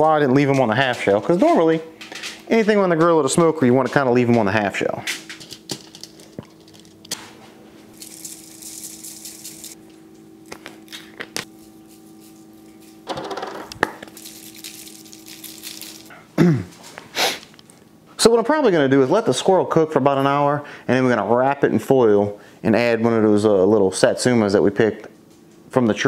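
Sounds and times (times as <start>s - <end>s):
faint steady hum: 4.0s - 26.0s.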